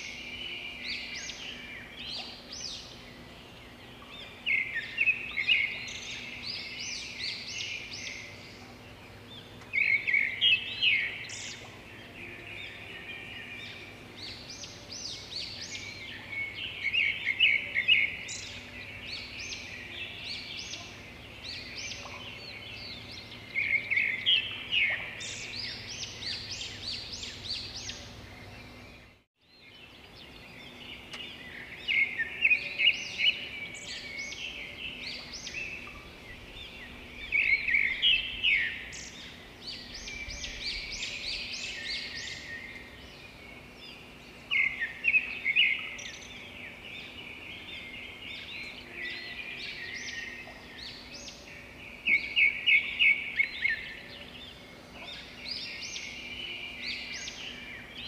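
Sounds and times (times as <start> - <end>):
birds chirping: 0.0 - 58.0
steady background hiss: 0.0 - 58.0.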